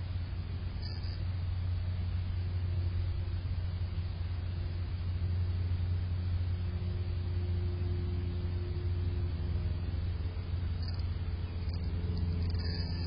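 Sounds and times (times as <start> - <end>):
faint hum: 0.0 - 13.0
steady low rumble: 0.0 - 13.0.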